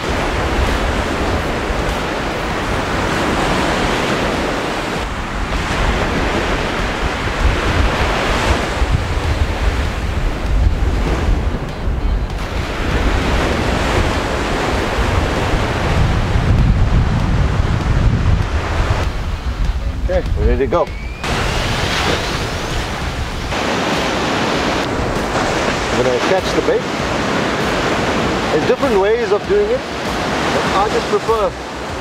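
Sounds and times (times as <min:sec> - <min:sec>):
surf breaking on beach: 0:00.0 - 0:11.7, 0:12.4 - 0:32.0
wind gusts on microphone: 0:00.0 - 0:32.0.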